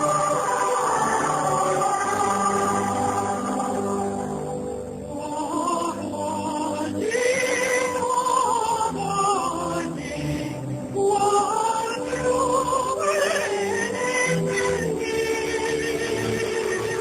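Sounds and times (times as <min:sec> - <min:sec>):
person singing with vibrato: 0:00.0 - 0:17.0.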